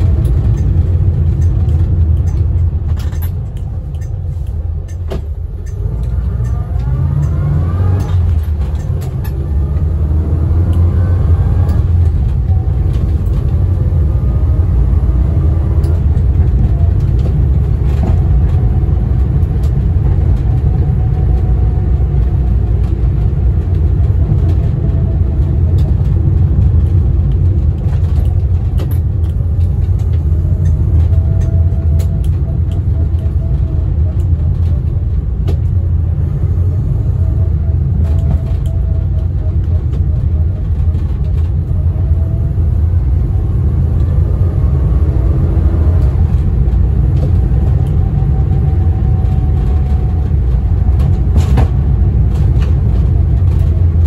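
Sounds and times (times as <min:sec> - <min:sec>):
car engine low rumble: 0:00.0 - 0:54.0
gearbox whine: 0:00.0 - 0:54.0.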